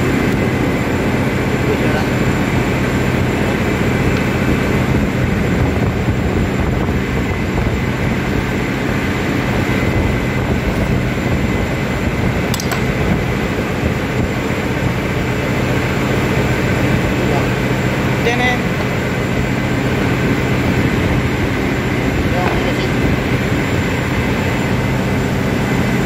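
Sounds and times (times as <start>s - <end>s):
machinery drone: 0.0s - 26.0s.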